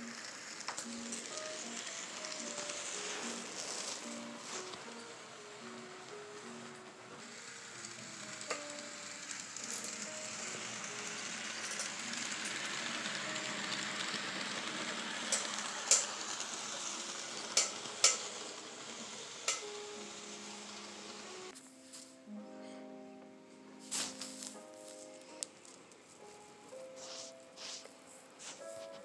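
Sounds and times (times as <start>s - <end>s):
model train wheels and motor hiss: 0.0s - 21.6s, 23.8s - 24.7s, 26.3s - 29.0s.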